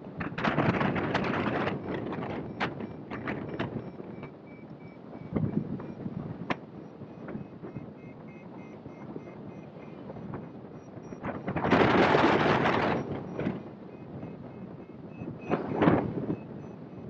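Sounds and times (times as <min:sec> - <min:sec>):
wind rushing over microphone: 0:00.0 - 0:17.0
rapid variometer beeping: 0:00.3 - 0:17.0.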